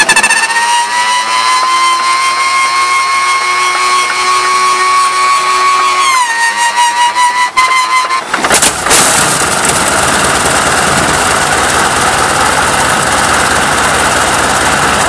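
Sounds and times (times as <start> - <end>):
aero engine high-pitched whine: 0.0 - 15.0.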